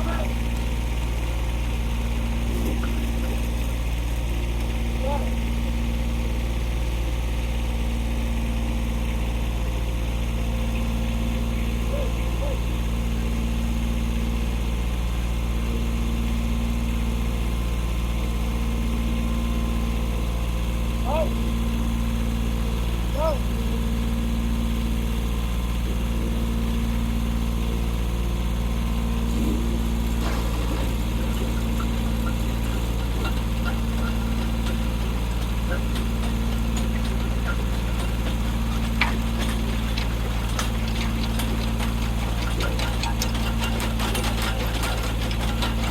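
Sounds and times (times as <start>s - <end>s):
auger engine running: 0.0s - 45.9s.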